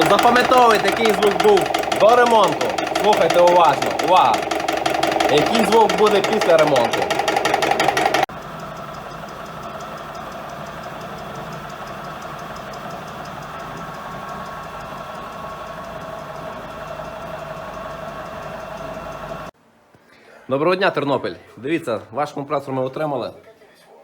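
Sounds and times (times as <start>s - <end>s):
compressor running evenly: 0.0s - 19.5s
piston compressor knocking: 0.0s - 19.5s.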